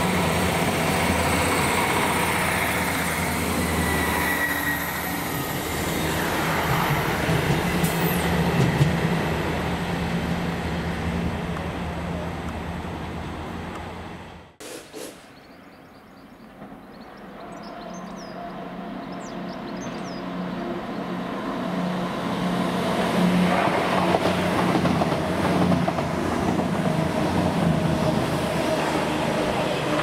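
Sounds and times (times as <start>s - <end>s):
diesel train engine hum: 0.0s - 30.0s.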